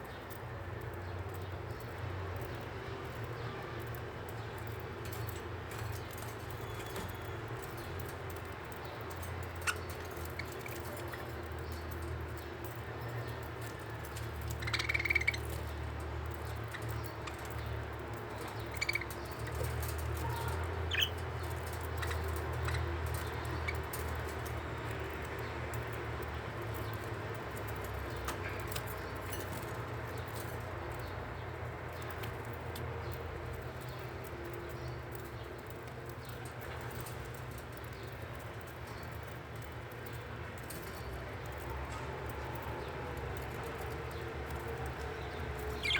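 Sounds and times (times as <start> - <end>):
cage birds chirping: 0.0 - 45.9.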